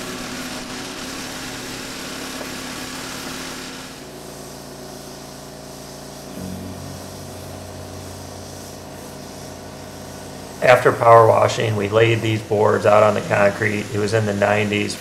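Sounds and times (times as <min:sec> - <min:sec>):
pressure washer engine running: 0:00.0 - 0:15.0
spray jet hissing on wood: 0:00.0 - 0:15.0.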